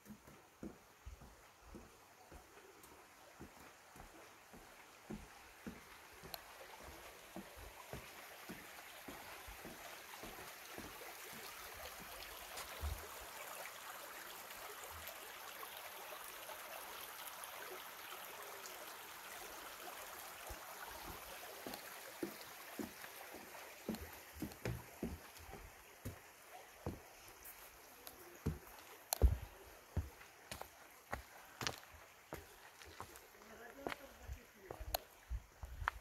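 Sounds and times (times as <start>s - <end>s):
soft footsteps on a path: 0.0s - 13.8s, 19.7s - 36.0s
stream water rushing: 0.0s - 36.0s.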